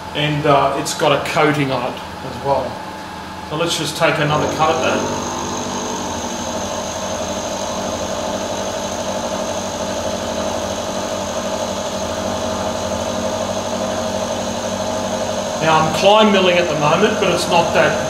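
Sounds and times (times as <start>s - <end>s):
milling machine whining: 2.7s - 18.0s.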